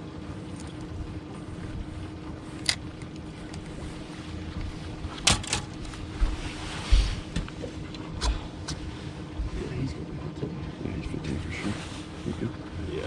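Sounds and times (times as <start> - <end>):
faint steady hum: 0.0 - 13.0
fishing boat engine rumble: 0.0 - 13.0.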